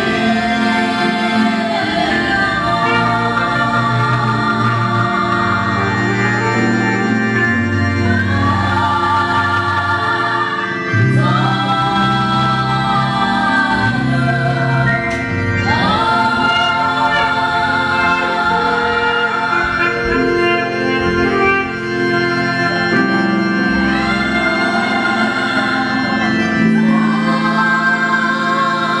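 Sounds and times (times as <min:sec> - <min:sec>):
church choir singing: 0:00.0 - 0:29.0
organ chords: 0:00.0 - 0:29.0.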